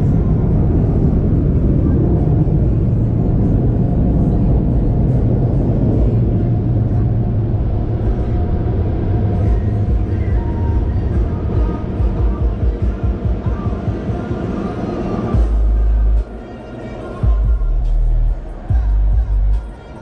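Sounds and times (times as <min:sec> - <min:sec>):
faint music: 0:00.0 - 0:20.0
vehicle rumble: 0:00.0 - 0:20.0.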